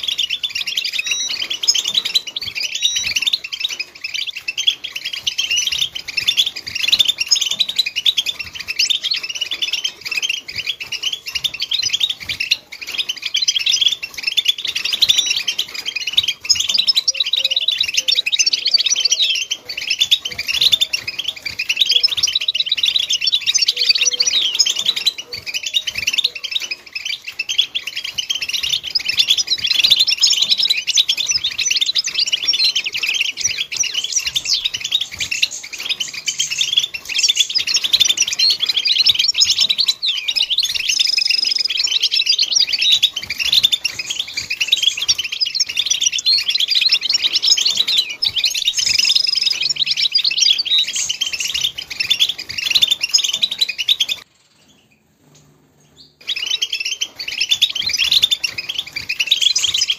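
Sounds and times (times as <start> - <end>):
goldfinch twittering song: 0.0 - 59.9.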